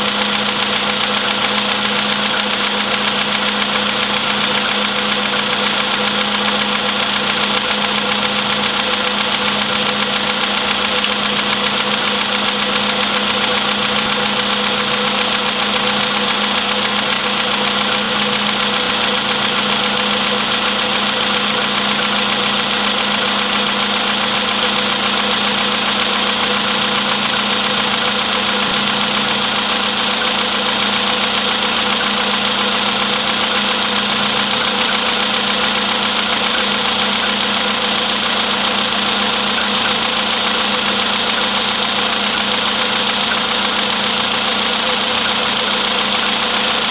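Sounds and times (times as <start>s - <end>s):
engine knocking rattle: 0.0s - 46.9s.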